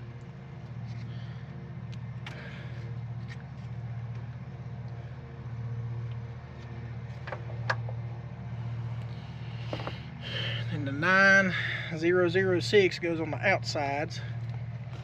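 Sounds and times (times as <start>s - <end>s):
lawn mower engine droning: 0.0s - 15.0s.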